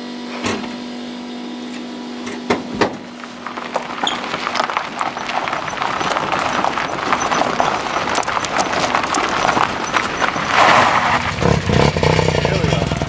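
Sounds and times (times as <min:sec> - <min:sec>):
rotary engine running unevenly: 0:00.0 - 0:13.0.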